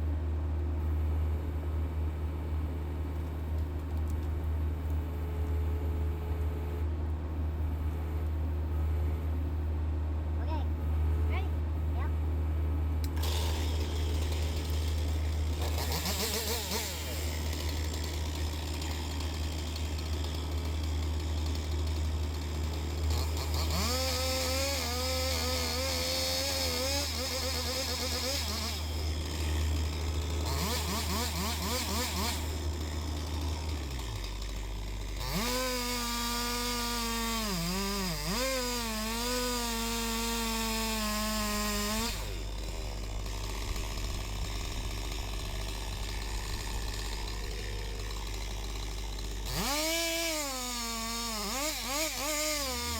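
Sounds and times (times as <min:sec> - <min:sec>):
excavator diesel engine droning: 0:00.0 - 0:52.9.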